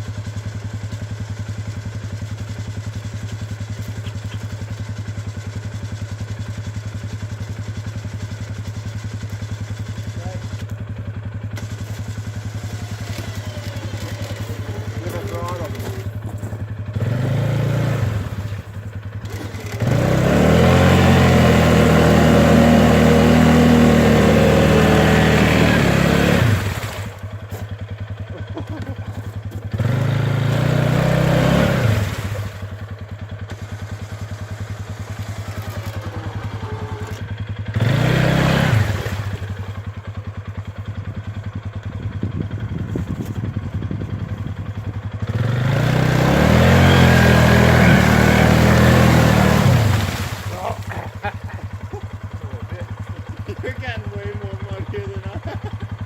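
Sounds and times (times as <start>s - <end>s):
atv engine revving and idling: 0.0s - 56.0s.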